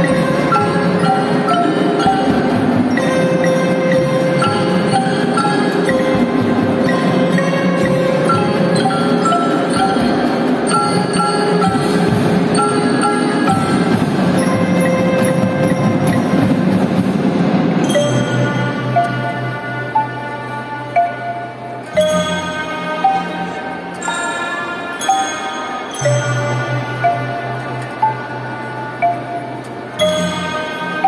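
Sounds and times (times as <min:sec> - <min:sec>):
marimbas playing melody: 0:00.0 - 0:31.0.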